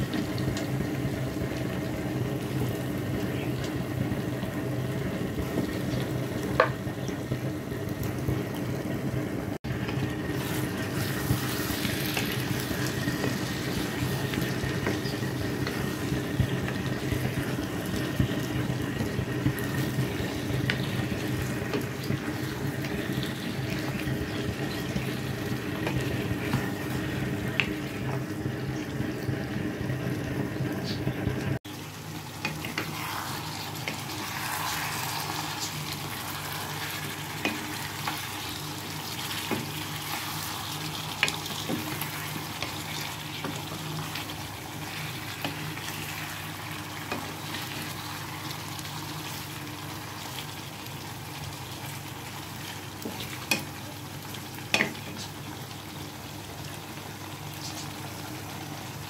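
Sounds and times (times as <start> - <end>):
curry sizzling in a pan: 0.0 - 59.0.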